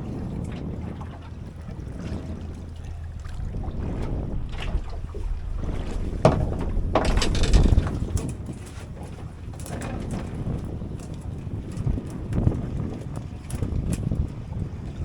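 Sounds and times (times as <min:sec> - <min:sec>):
water washing against boat hull: 0:00.0 - 0:15.0
wind buffeting microphone: 0:00.0 - 0:15.0.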